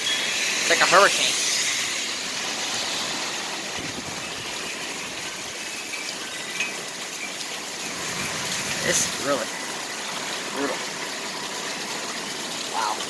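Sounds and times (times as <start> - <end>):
heavy rain pouring: 0.0 - 13.0
water gushing: 0.0 - 13.0.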